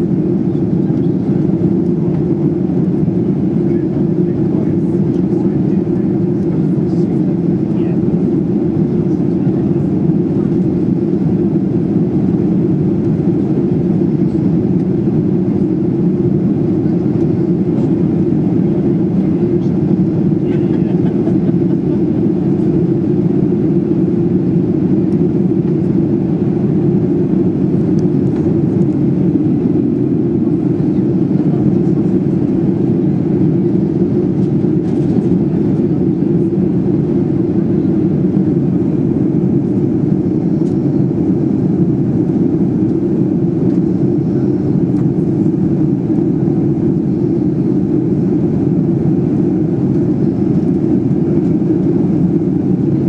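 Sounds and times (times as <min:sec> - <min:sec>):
airplane cabin hum: 0:00.0 - 0:53.0.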